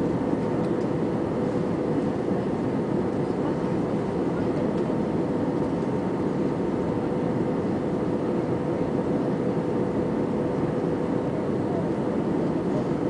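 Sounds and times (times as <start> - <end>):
airliner cabin noise: 0.0 - 13.0.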